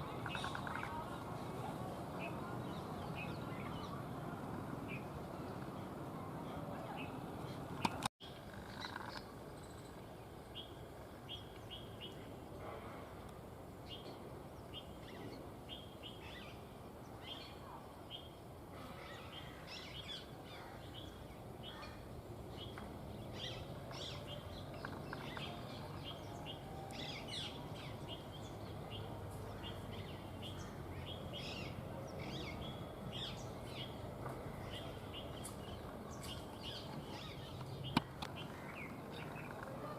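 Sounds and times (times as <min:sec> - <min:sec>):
small birds chirping: 0:00.0 - 0:12.3, 0:13.8 - 0:39.9.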